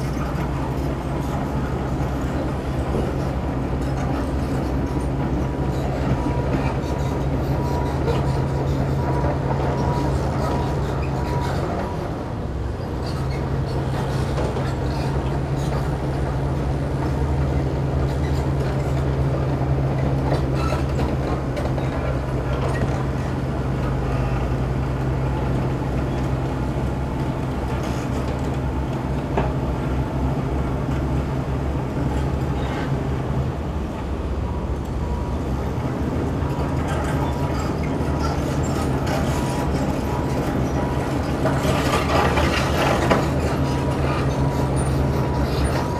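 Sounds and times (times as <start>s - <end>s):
diesel engines droning: 0.0s - 45.9s.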